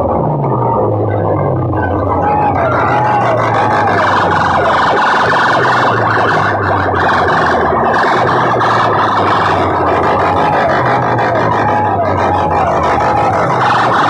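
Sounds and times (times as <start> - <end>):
dense buzzing blare: 0.0 - 14.0
heavy bass: 0.0 - 14.0
siren-style wailing effect: 0.0 - 14.0.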